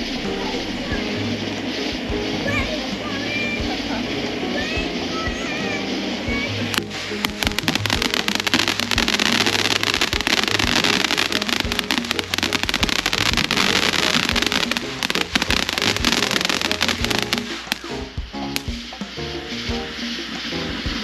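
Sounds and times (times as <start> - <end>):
firework crackling pops: 0.0 - 19.2
background music: 0.0 - 21.0.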